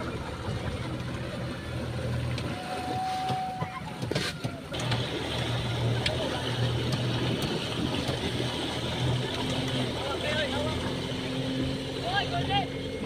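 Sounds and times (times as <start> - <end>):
outboard motor running: 0.0 - 13.0
water rushing along hull: 0.0 - 13.0.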